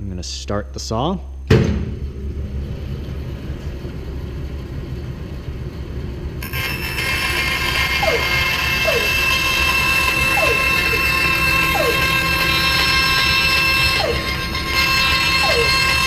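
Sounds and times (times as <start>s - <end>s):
high whine and hiss: 0.0s - 16.0s
band saw humming: 2.1s - 16.0s.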